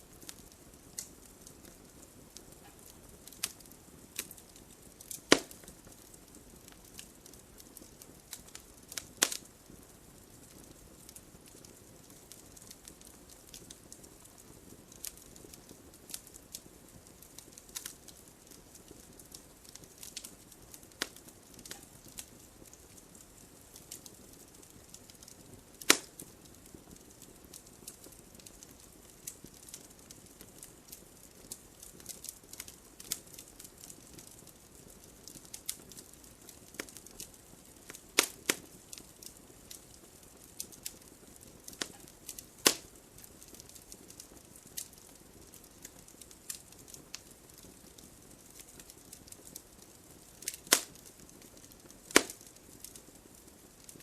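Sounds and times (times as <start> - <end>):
soft steady hiss: 0.0 - 54.0
wood fire crackling: 0.0 - 54.0.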